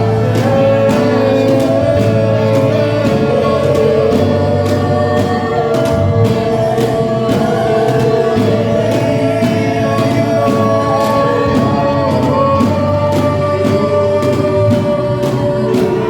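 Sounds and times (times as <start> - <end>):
steady drum beat: 0.0 - 16.0
voices singing held notes: 0.0 - 16.0.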